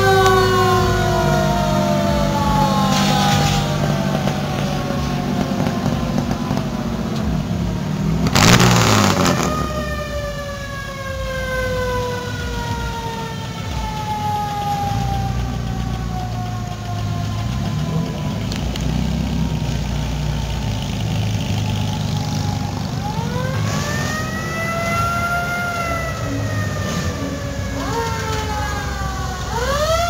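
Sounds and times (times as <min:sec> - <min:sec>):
car engines rumbling: 0:00.0 - 0:30.0
siren-like wailing tone: 0:00.0 - 0:30.0.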